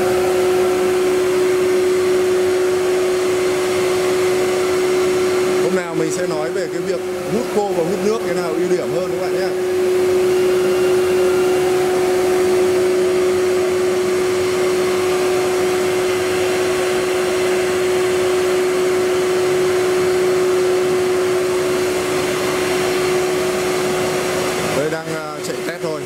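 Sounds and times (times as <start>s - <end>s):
vacuum pump humming: 0.0s - 26.0s.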